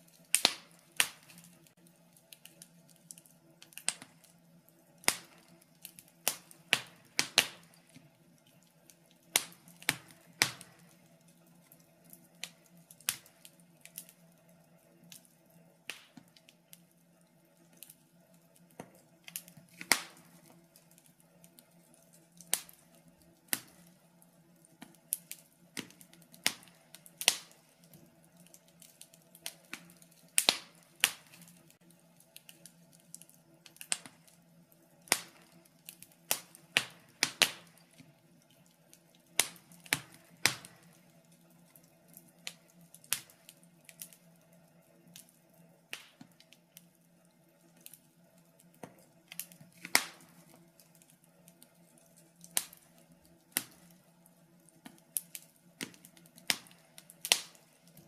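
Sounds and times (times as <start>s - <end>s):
faint steady hum: 0.0s - 58.0s
wood fire crackling and popping: 0.0s - 58.0s.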